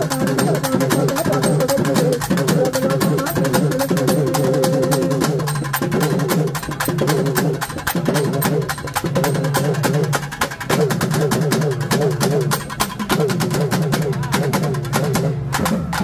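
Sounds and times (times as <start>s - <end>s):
drum band fast rhythm: 0.0s - 16.0s.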